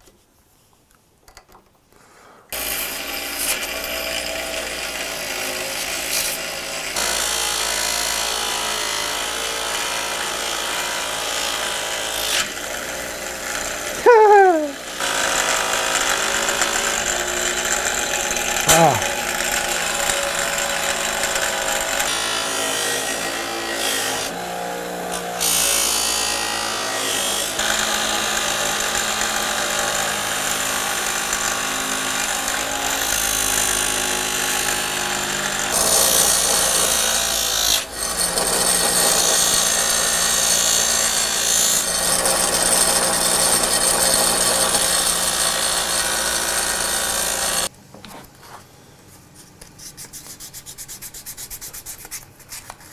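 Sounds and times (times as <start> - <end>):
power tool grinding: 2.6 - 47.7.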